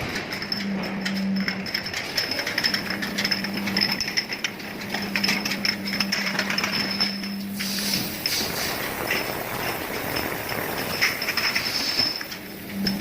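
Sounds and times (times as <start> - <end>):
clicking and rattling: 0.0 - 13.0.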